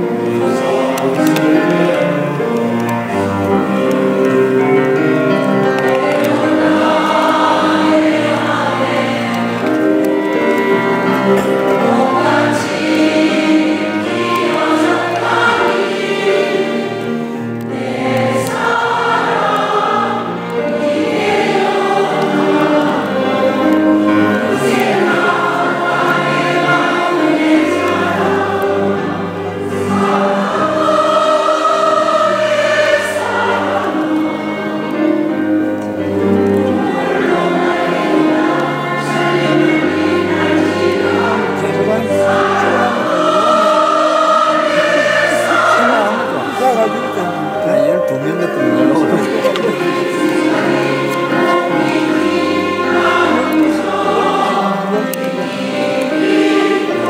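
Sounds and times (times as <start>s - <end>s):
instrumental accompaniment: 0.0s - 57.0s
large choir singing: 0.0s - 57.0s.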